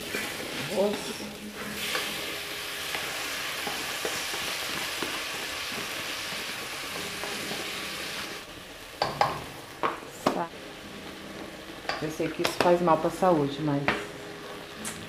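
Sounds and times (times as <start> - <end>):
rice sizzling in pot: 0.0 - 15.0.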